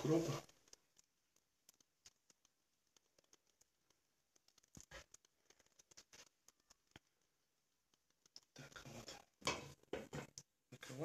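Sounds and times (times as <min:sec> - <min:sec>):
omelette crackling in a pan: 0:00.0 - 0:10.6.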